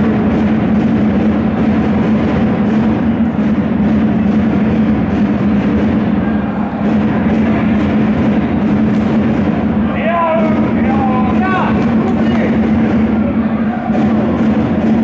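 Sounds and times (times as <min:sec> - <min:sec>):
constant low hum: 0:00.0 - 0:15.0
indoor football hall din: 0:00.0 - 0:15.0.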